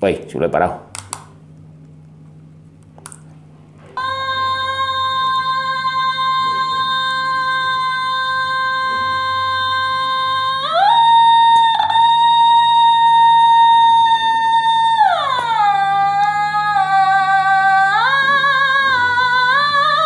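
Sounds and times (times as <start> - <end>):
electronic instrument note: 3.8 - 20.0.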